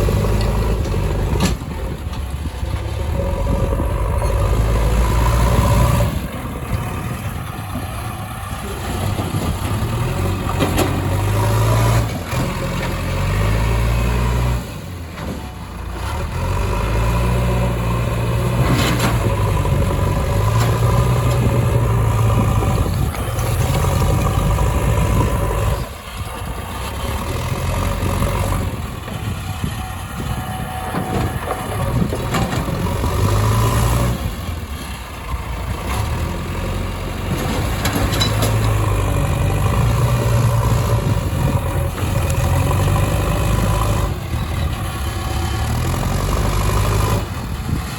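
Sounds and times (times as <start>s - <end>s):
heavy diesel engine revving: 0.0s - 47.9s.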